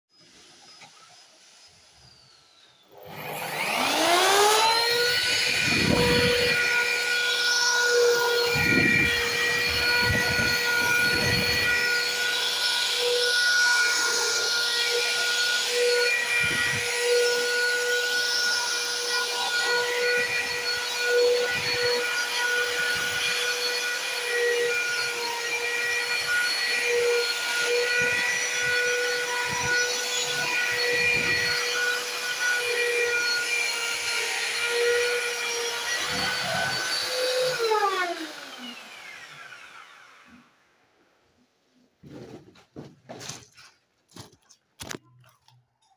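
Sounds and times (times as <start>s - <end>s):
drywall sander whining: 2.0s - 40.6s
sander spinning down: 2.8s - 40.6s.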